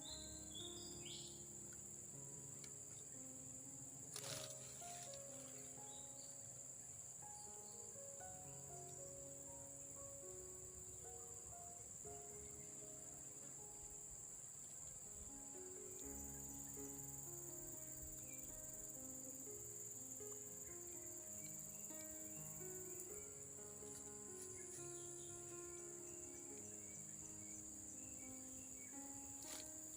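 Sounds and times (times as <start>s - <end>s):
crickets chirring: 0.0s - 29.9s
soft background music: 0.0s - 29.9s.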